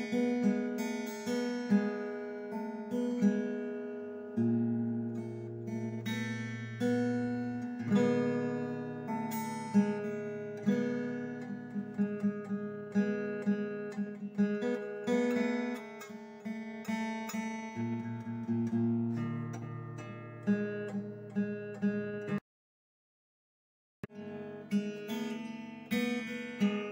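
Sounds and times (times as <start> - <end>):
acoustic guitar plucked notes: 0.0 - 22.4, 24.0 - 26.9.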